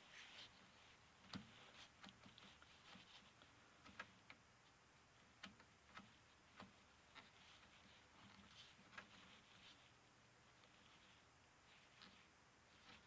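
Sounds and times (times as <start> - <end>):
faint clicks and taps: 0.3 - 13.0.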